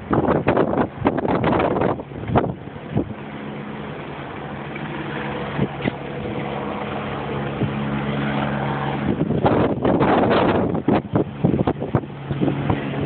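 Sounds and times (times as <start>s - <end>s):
motor engine humming: 0.0s - 13.0s.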